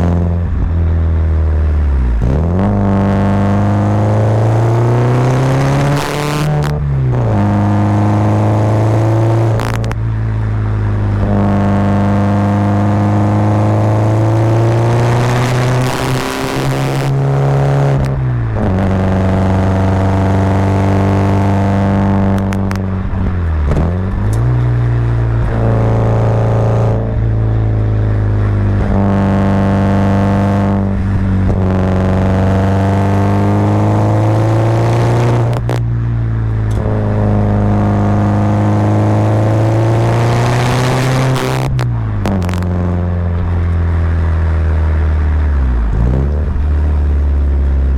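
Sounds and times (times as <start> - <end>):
car engine pulling uphill: 0.0 - 47.9.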